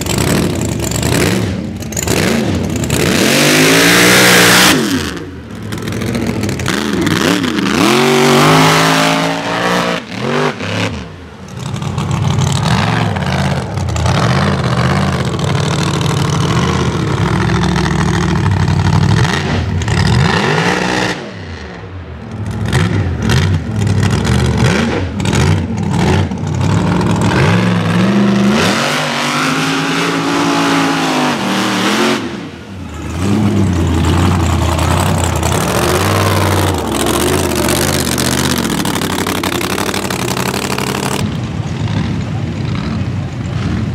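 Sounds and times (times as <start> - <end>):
tyres churning mud: 0.0 - 21.2, 21.9 - 43.9
truck engine revving: 0.0 - 43.9.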